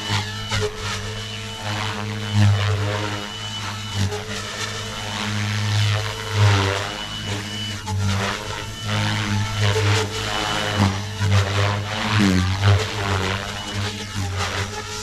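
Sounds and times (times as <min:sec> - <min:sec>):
rc helicopter rotor hum: 0:00.0 - 0:15.0.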